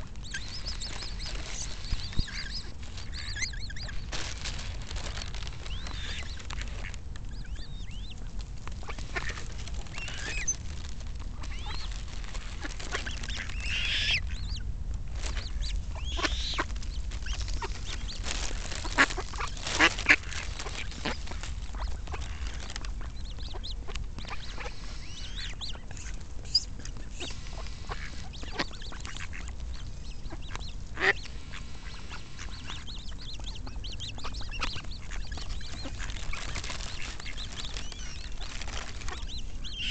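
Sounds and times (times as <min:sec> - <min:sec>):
ducks quacking: 0:00.0 - 0:10.6, 0:11.3 - 0:14.6, 0:15.2 - 0:39.9
coots calling: 0:00.0 - 0:14.6, 0:15.2 - 0:39.9.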